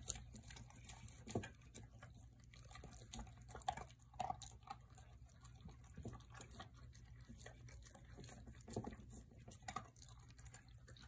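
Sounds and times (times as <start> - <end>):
dog chewing and lapping: 0.0 - 11.0.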